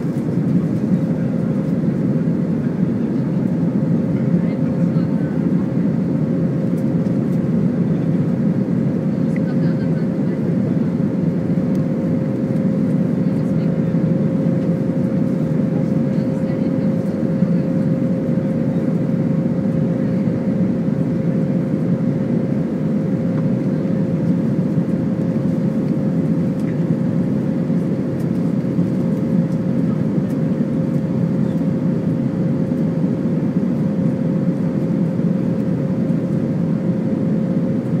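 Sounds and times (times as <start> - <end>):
airplane cabin engine noise: 0.0 - 38.0.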